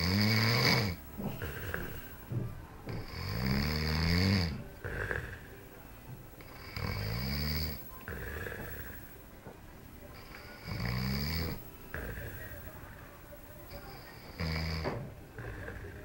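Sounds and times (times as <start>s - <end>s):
person snoring: 0.0s - 5.6s, 6.4s - 9.2s, 10.1s - 12.8s, 13.7s - 16.0s.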